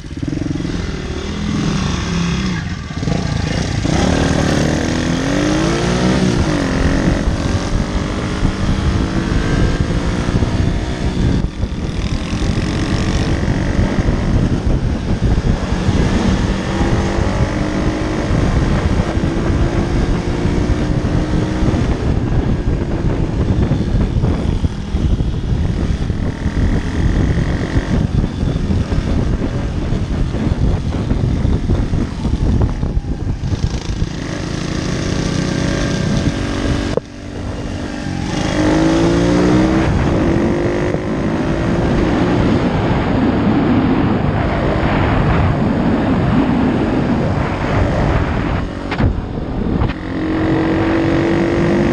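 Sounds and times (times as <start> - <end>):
motorbike engine revving: 0.0 - 51.9
wind rushing over microphone: 0.0 - 51.9.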